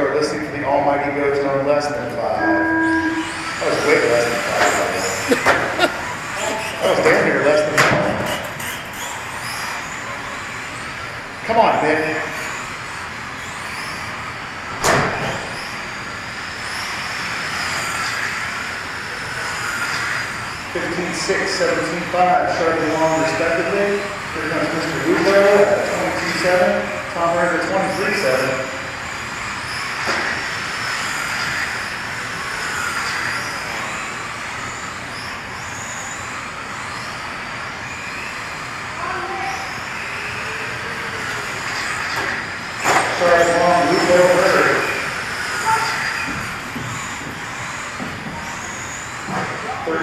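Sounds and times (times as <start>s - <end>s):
rc car motors whining: 0.0s - 50.0s
tyre and drivetrain noise: 2.4s - 50.0s.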